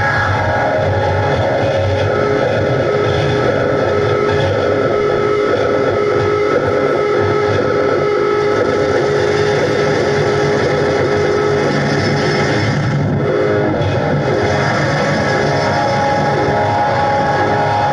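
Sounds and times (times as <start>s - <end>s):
distorted noise music: 0.0s - 17.9s
droning tone: 0.0s - 17.9s.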